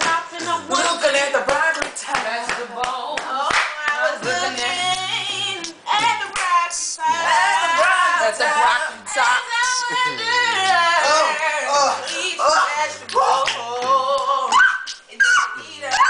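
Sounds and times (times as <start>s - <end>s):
young voices singing a cappella: 0.0s - 2.1s, 2.7s - 16.0s.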